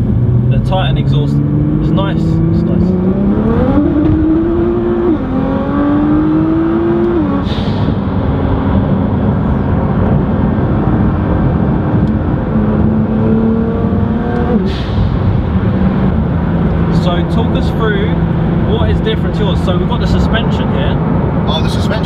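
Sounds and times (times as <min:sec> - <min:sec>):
car engine revving in cabin: 0:00.0 - 0:22.0.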